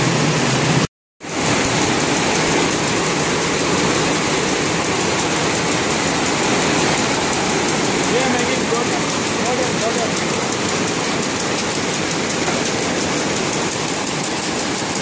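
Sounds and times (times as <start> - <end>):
looms running: 0.0 - 15.0.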